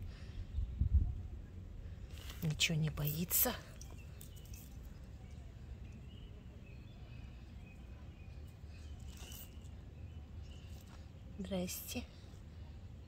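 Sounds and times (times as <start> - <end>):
distant birds chirping: 1.8 - 13.0.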